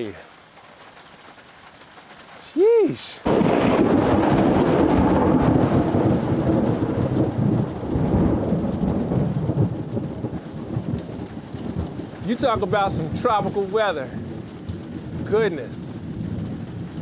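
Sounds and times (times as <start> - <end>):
steady rain: 0.0 - 17.0
thunderclap with long rumble: 3.2 - 17.0.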